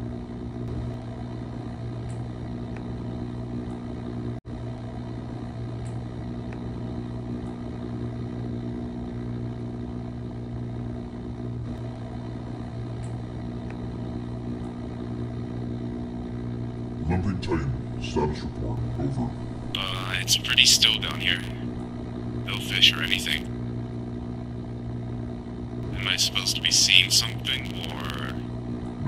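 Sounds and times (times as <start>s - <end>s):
submersible engine hum: 0.5s - 29.0s.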